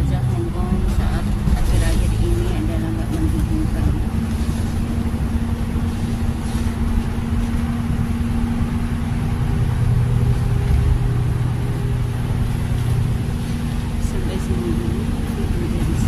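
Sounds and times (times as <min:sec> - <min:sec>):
bus engine drone: 0:00.0 - 0:16.0
deep hum: 0:00.0 - 0:16.0.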